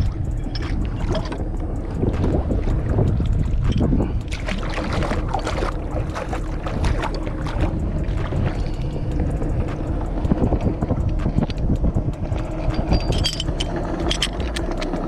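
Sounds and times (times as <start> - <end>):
water splashing and dripping: 0.0 - 15.0
wind buffeting microphone: 0.0 - 15.0.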